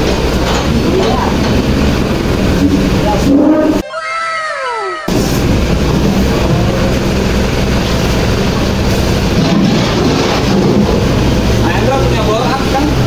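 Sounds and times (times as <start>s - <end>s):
truck engine idling: 0.0s - 3.8s, 5.1s - 13.0s.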